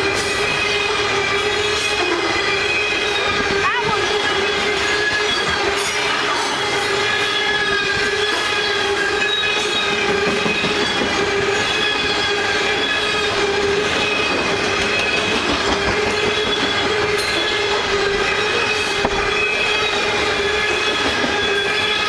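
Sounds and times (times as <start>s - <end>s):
rumble of freight cars: 0.0s - 22.0s
train wheels squealing on rails: 0.0s - 22.0s.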